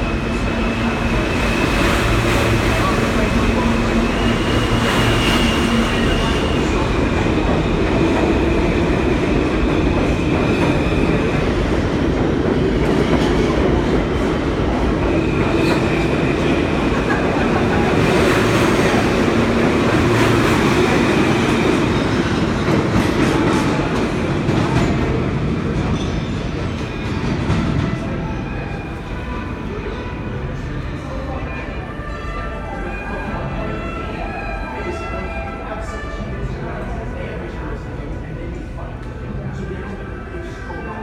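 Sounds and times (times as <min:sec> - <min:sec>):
subway train wheels rumbling: 0:00.0 - 0:41.0.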